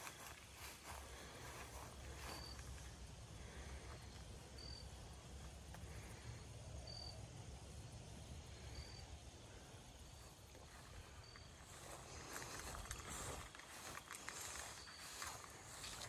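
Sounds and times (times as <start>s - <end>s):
cricket chirping: 0.0s - 16.0s
low steady rumble: 0.0s - 16.0s.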